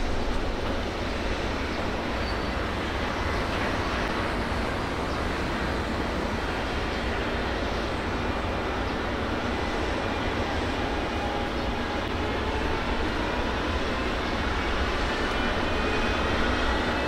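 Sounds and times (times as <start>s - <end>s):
electric locomotive rumbling: 0.0s - 17.0s.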